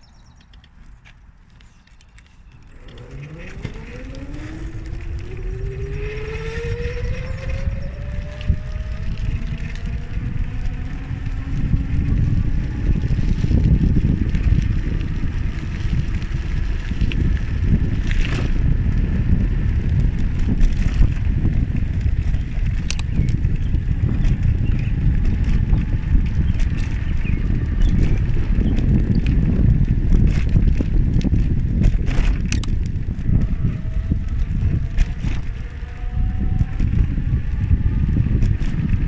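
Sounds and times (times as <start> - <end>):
steady low rumble: 0.0 - 39.0
wind buffeting microphone: 0.0 - 39.0.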